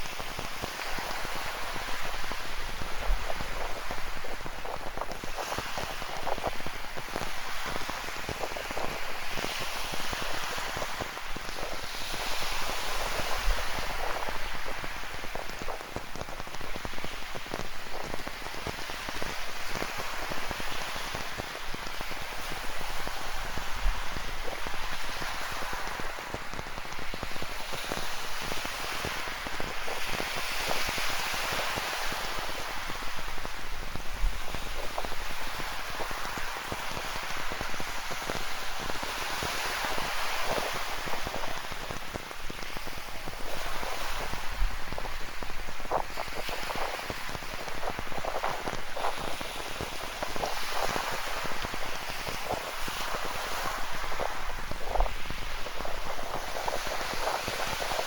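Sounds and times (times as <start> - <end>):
ocean surf: 0.0 - 58.0.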